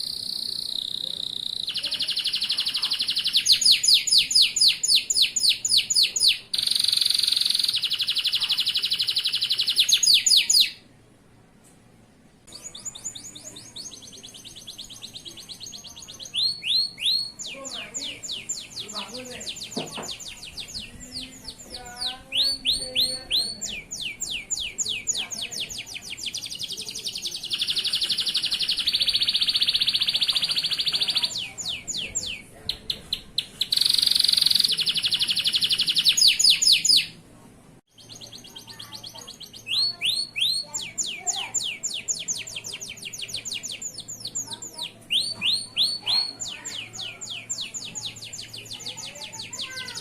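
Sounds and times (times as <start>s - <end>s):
canary singing trills: 0.0s - 10.9s, 12.5s - 37.2s, 37.9s - 50.0s.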